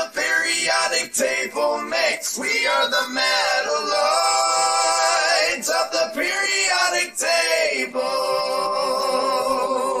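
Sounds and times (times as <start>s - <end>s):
layered voices singing: 0.0s - 10.0s.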